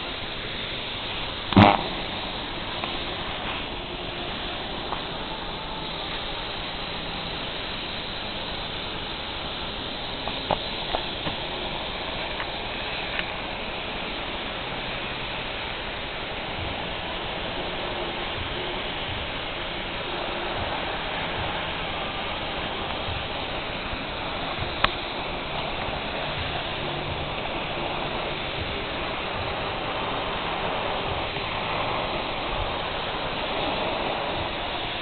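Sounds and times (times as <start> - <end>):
welding arc hissing: 0.0 - 35.0.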